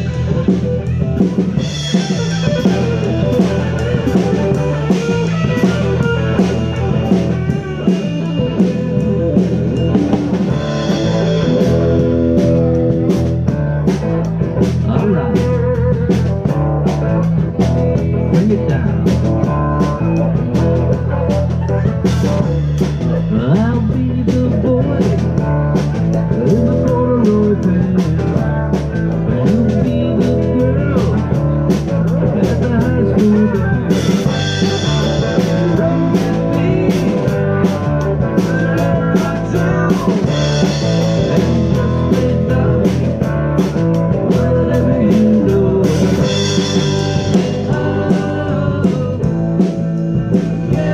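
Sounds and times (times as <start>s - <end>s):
drum kit beat: 0.0s - 50.9s
electric bass: 0.0s - 50.9s
electric guitar lead with bent notes: 0.0s - 50.9s.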